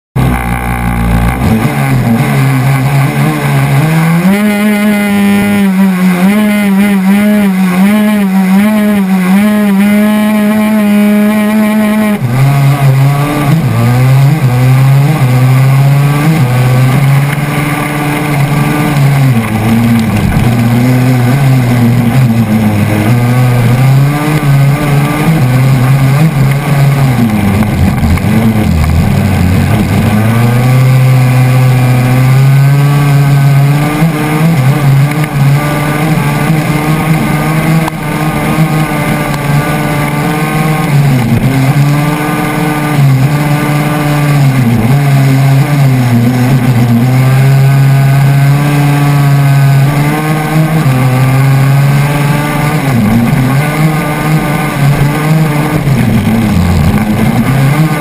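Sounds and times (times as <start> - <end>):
two-stroke engine revving: 0.2 - 58.0.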